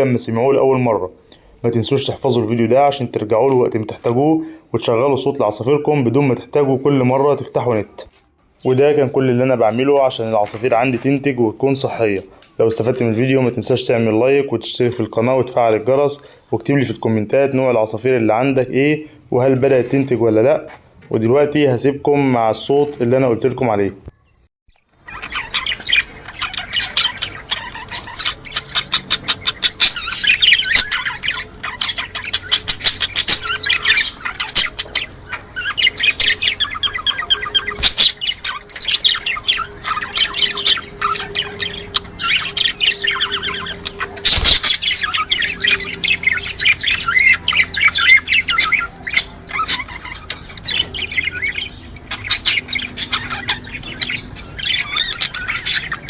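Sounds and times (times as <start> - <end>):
cage birds chirping: 0.0 - 56.0.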